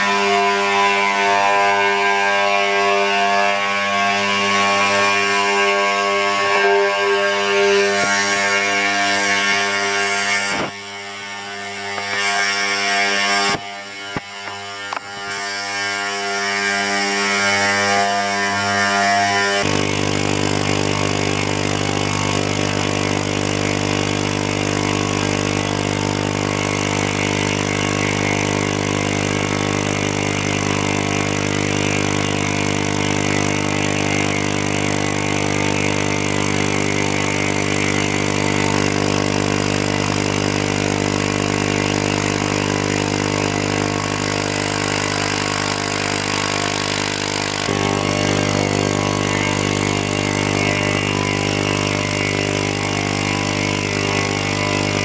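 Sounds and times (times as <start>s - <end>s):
cnc mill spindle hum and whine: 0.0s - 55.0s.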